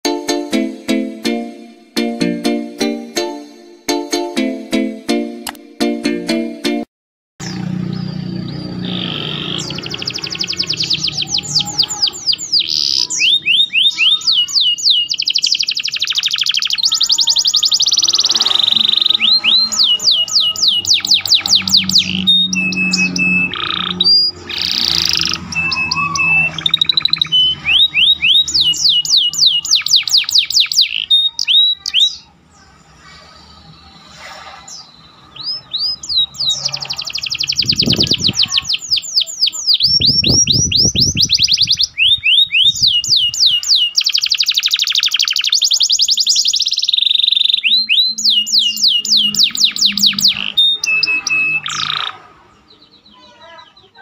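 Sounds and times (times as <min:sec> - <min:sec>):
canary singing trills: 0:07.4 - 0:54.0.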